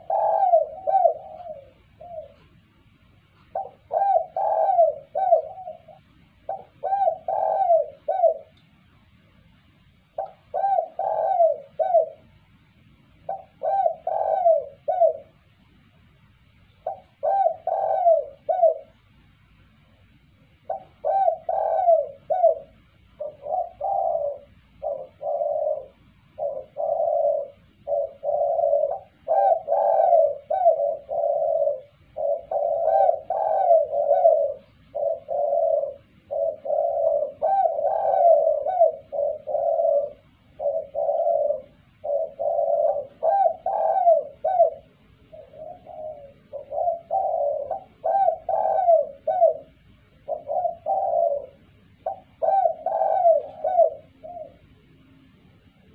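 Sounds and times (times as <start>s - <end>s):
dove cooing: 0.0s - 9.0s, 10.1s - 15.8s, 16.7s - 55.9s.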